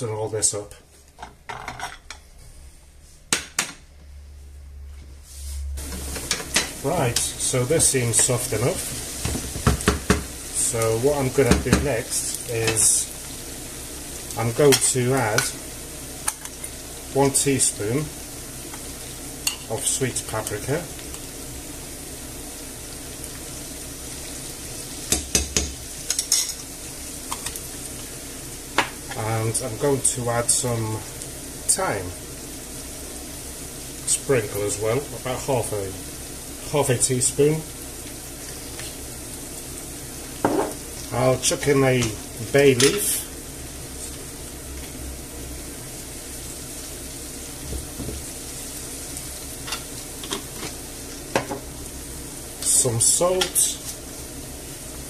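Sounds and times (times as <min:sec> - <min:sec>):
vegetables sizzling in a pan: 0:05.2 - 0:55.0.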